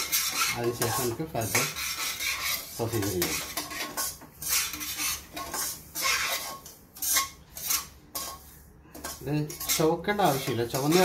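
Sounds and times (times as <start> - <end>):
metal spatula scraping a pan: 0.0 - 11.0.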